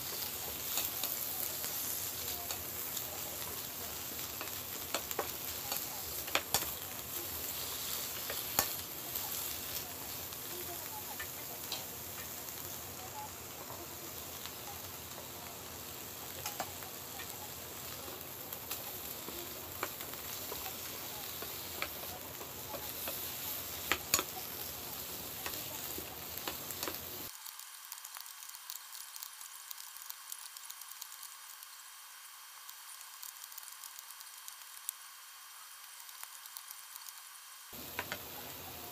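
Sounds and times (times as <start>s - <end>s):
vegetables sizzling in a frying pan: 0.0s - 38.9s.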